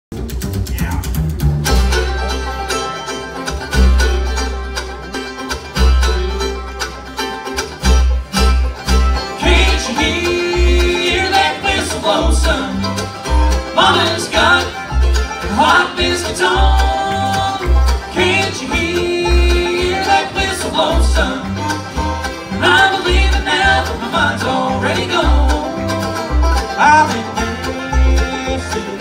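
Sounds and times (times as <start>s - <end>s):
bluegrass band playing: 0.1s - 29.0s
upright bass notes: 0.1s - 29.0s.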